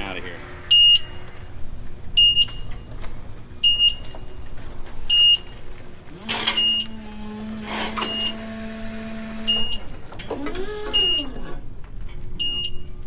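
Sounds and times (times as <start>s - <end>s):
backup alarm beeping: 0.0s - 11.6s, 12.4s - 12.9s
motor humming: 0.0s - 11.8s.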